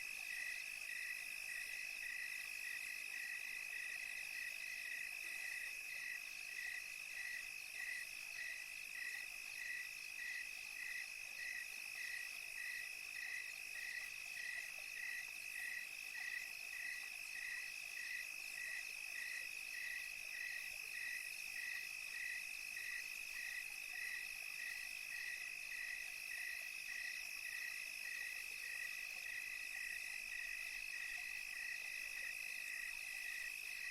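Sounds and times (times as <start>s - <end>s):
cricket chirping in pulses: 0.1s - 33.9s.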